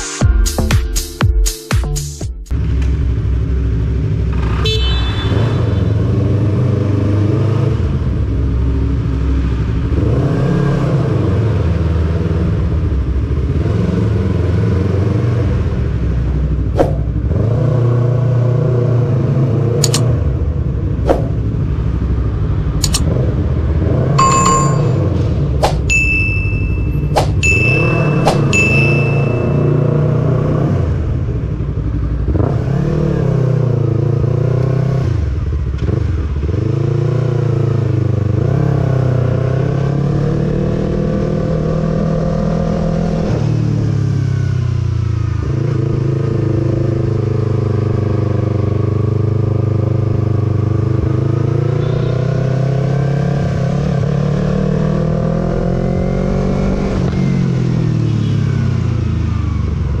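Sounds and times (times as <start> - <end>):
motorcycle engine revving: 2.6 - 60.0.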